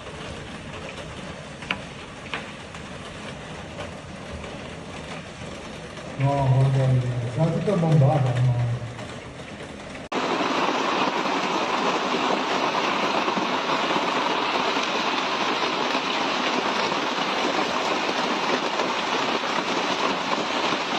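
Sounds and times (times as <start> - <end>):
hail clattering: 0.0 - 20.9.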